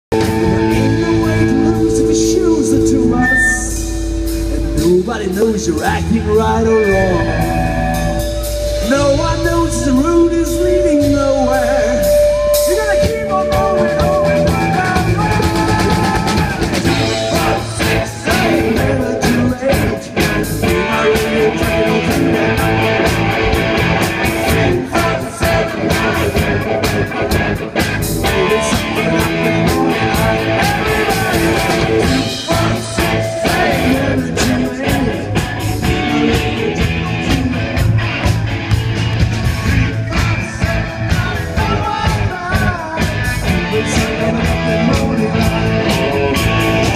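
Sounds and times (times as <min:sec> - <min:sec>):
bass guitar: 0:00.0 - 0:46.9
drum kit: 0:00.1 - 0:46.9
electric guitars: 0:00.1 - 0:46.9
man singing lead vocals: 0:00.1 - 0:46.9.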